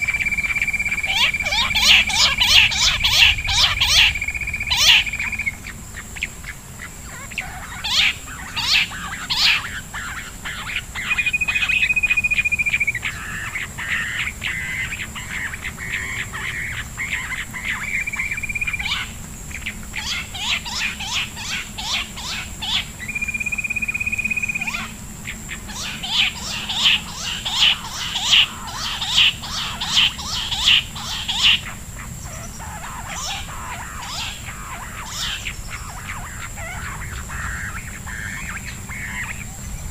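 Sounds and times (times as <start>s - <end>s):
quail calling sharp notes: 0.0s - 39.9s.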